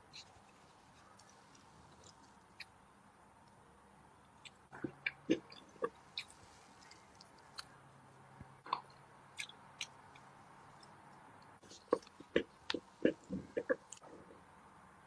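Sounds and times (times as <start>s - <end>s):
soft squelches of frosting: 0.0s - 15.0s.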